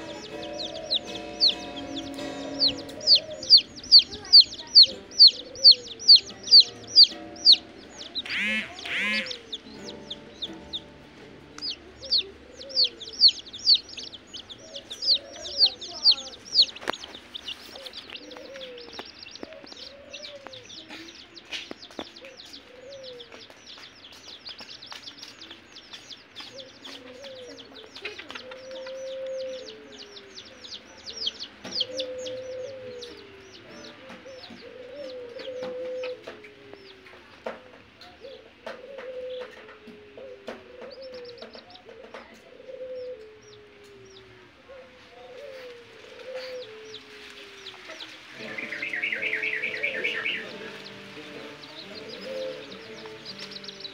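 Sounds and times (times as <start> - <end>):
chicks peeping: 0.0 - 53.9.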